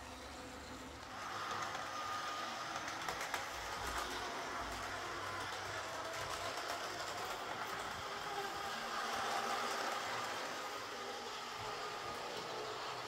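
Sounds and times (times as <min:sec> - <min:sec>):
model train motor whine: 0:00.0 - 0:13.0
model train wheels on rails: 0:00.0 - 0:13.0.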